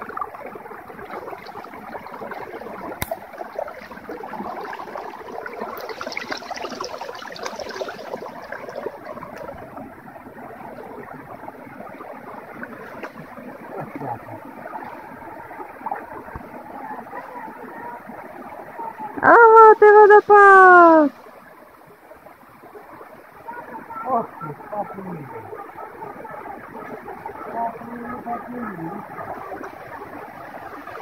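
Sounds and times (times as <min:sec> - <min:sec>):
stream rushing: 0:00.0 - 0:31.0.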